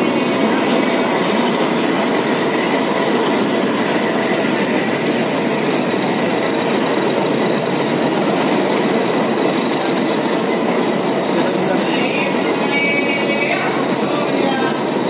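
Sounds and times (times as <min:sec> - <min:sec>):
train wheels running on track: 0:00.0 - 0:15.0.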